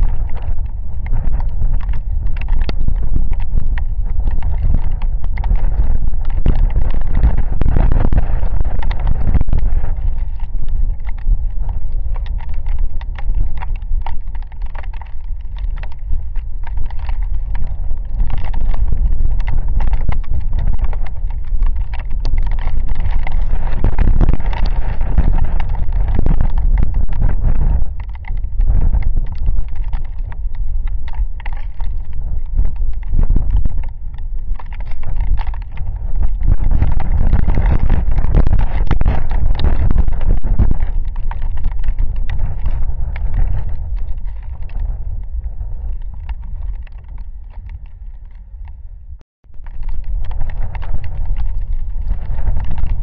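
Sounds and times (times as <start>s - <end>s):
raindrops hitting camera: 0.0s - 48.8s, 49.4s - 53.0s
wind buffeting microphone: 0.0s - 53.0s.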